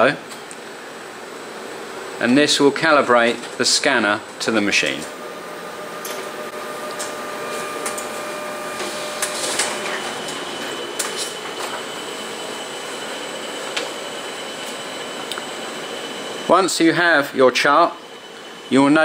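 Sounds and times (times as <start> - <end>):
laser copier whirring: 0.0 - 19.0.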